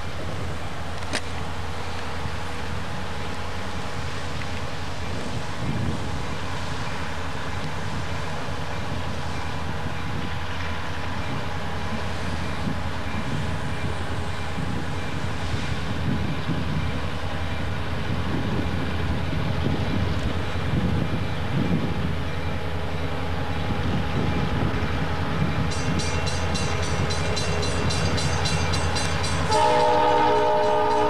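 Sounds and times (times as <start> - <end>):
locomotive engine rumble: 0.0 - 31.0.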